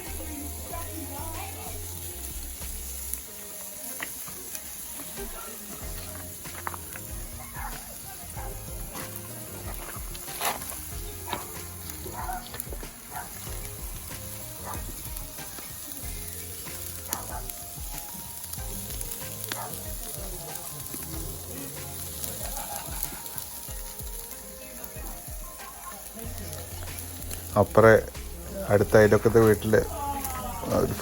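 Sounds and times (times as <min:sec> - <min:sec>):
crackles and pops: 0:00.0 - 0:31.0
meat sizzling on a grill: 0:00.0 - 0:31.0.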